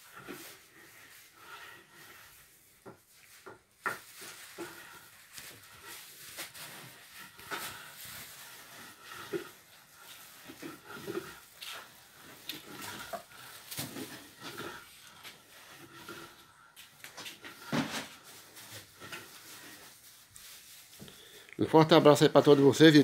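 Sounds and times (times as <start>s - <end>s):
flour scraping on flat pan: 0.0s - 21.3s.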